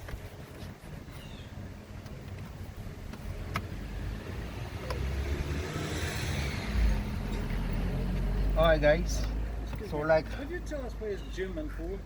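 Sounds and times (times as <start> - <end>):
car engine rumble and tyre noise: 0.0 - 12.0.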